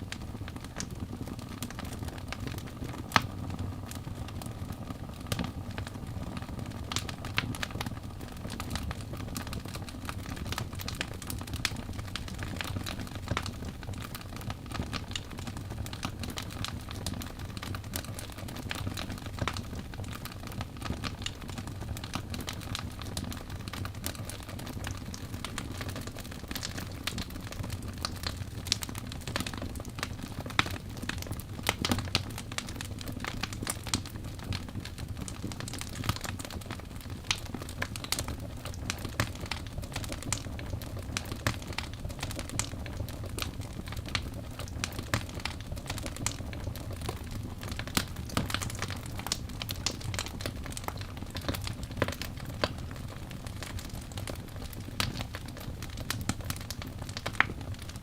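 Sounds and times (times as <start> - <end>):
fire rumbling: 0.0 - 58.0
wood crackling and popping: 0.0 - 58.0.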